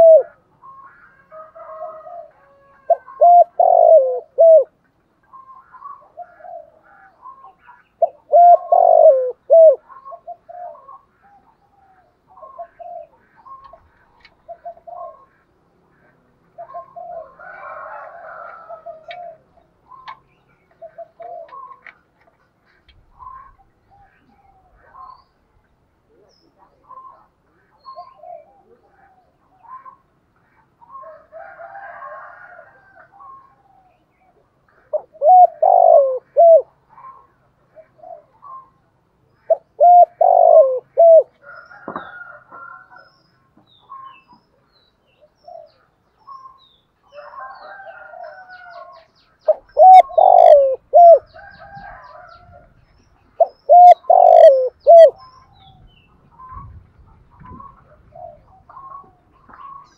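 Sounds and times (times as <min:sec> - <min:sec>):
dove cooing: 0:00.0 - 0:22.0, 0:23.0 - 0:25.2, 0:26.0 - 0:30.1, 0:30.8 - 0:38.8, 0:39.4 - 0:43.0, 0:47.1 - 0:52.7, 0:53.3 - 0:59.9.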